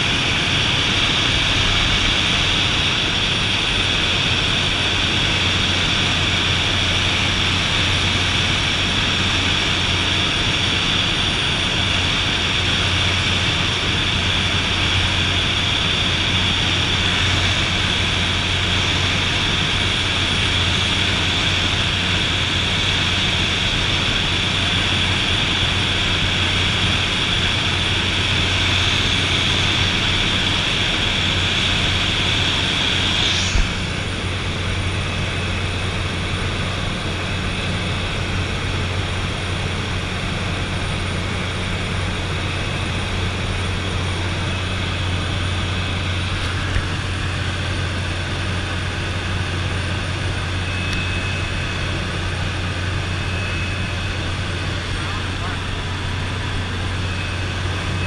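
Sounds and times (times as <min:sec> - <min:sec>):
high whine: 0:00.0 - 0:58.0
propeller aircraft engine drone: 0:00.0 - 0:58.0.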